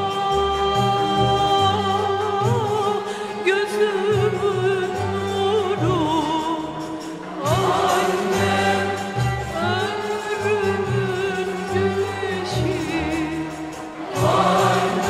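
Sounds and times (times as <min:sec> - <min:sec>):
woman singing slow song: 0:00.0 - 0:13.6
instrumental accompaniment: 0:00.0 - 0:15.0.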